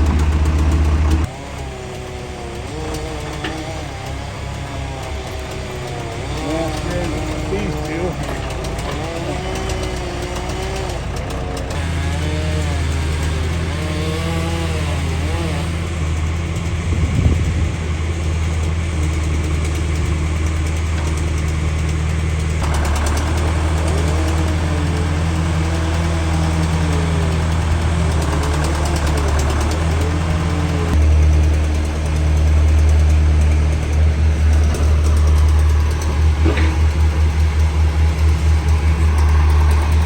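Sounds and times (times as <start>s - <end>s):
heavy equipment engine running: 0.0s - 40.0s.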